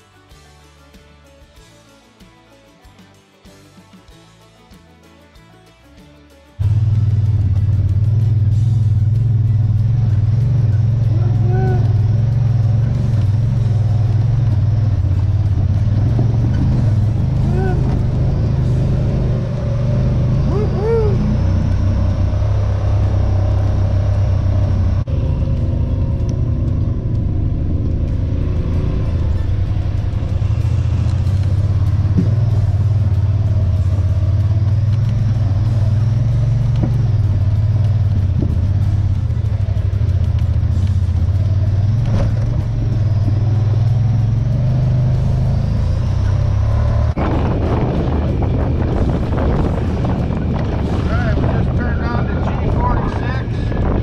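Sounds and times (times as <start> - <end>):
utility vehicle engine droning: 6.6 - 54.0.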